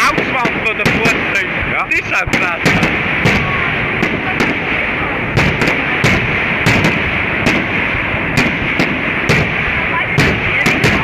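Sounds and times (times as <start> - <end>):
firework bangs: 0.0 - 11.0
steady noisy background: 0.0 - 11.0.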